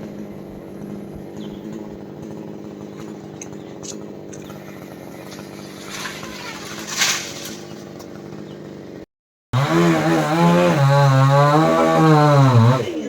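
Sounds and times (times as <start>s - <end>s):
chainsaw idling: 0.0s - 13.0s.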